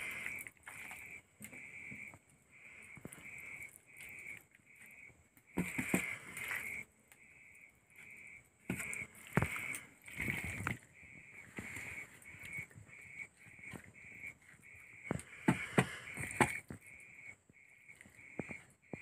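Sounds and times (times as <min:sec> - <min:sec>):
wet squelching of chicken: 0:00.0 - 0:06.9, 0:08.0 - 0:17.0.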